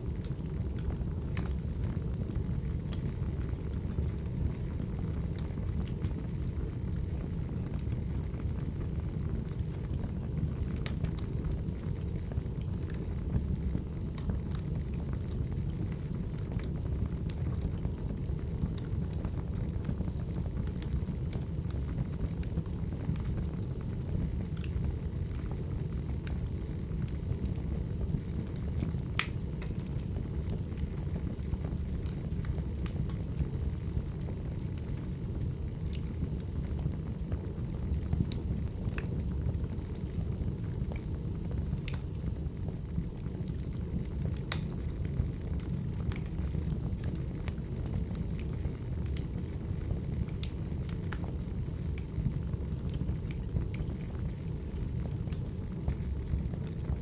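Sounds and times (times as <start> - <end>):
wood fire burning and crackling: 0.0 - 57.0.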